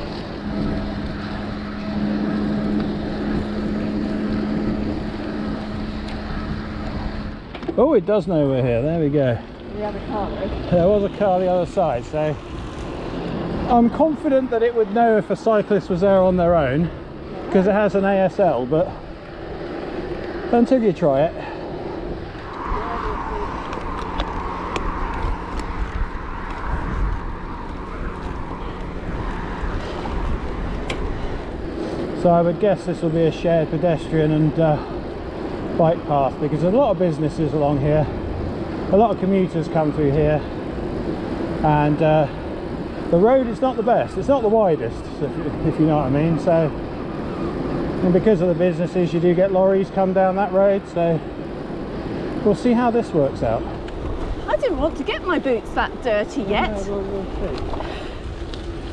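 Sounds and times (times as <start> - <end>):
bicycle rolling noise: 0.0 - 58.9
steady low hum: 0.0 - 58.9
wind rushing over microphone: 0.0 - 58.9.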